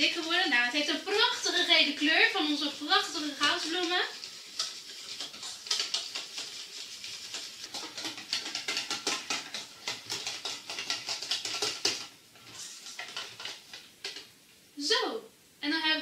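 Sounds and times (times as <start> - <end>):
whisk scraping metal bowl: 0.0 - 14.3.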